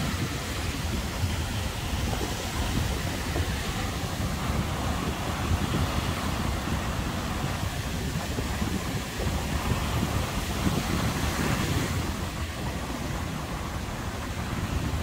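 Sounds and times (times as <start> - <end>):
surf washing on sandy beach: 0.0 - 15.0
wind buffeting microphone: 0.0 - 15.0.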